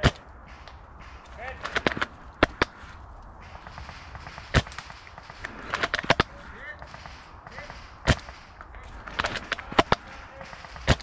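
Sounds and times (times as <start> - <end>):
airsoft guns firing: 0.0 - 11.0.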